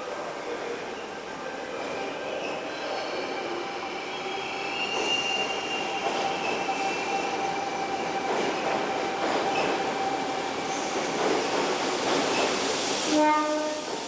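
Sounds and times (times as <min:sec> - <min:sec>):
electric train rumble: 0:00.0 - 0:14.0.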